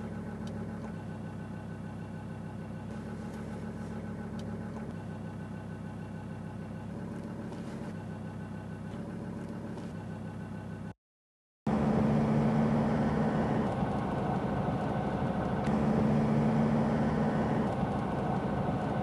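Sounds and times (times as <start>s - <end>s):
engine idling heard from cab: 0.0s - 11.0s, 11.7s - 19.0s.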